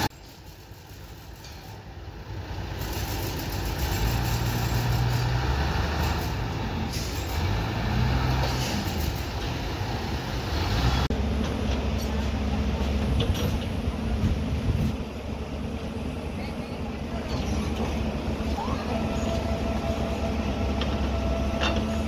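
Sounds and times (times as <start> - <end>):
diesel engine revving: 2.0 - 22.0.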